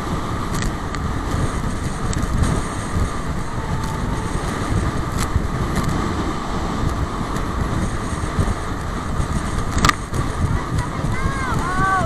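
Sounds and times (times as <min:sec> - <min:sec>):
water rushing and spraying: 0:00.0 - 0:12.0
wind buffeting microphone: 0:00.0 - 0:12.0.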